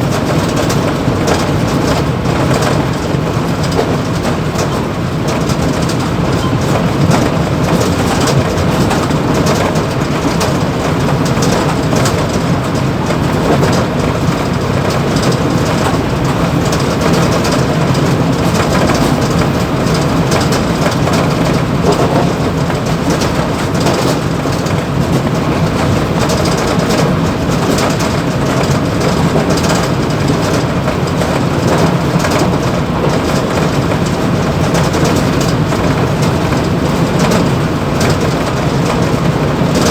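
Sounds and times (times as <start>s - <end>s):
train wheels rumbling on rail: 0.0s - 39.9s
cab rattling: 0.2s - 39.9s.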